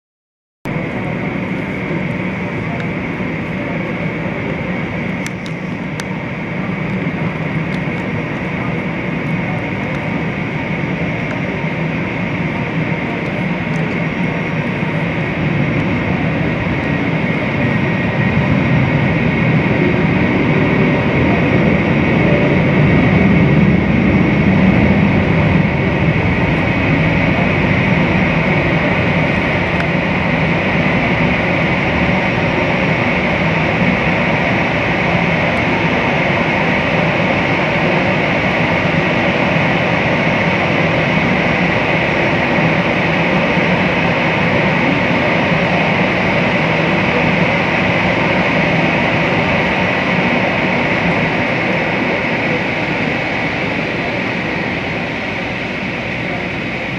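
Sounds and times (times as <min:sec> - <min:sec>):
jet engines whining at idle: 0:00.6 - 0:56.9.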